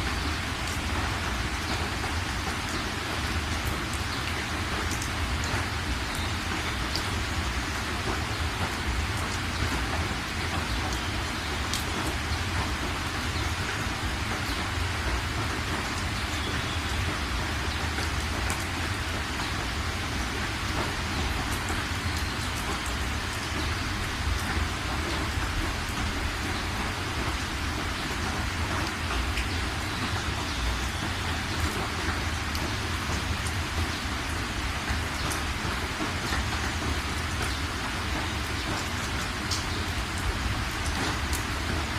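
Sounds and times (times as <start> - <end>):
heavy rain pattering: 0.0 - 41.9.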